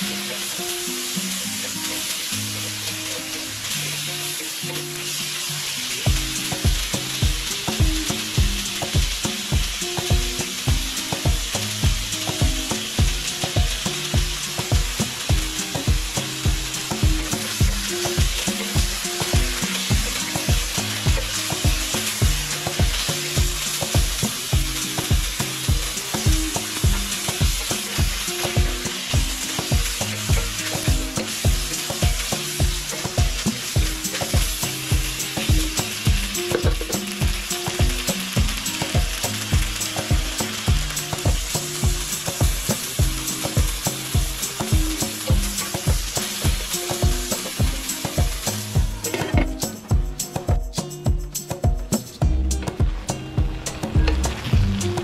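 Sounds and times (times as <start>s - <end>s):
background music with steady beat: 0.0s - 55.0s
food sizzling in a wok: 0.0s - 55.0s.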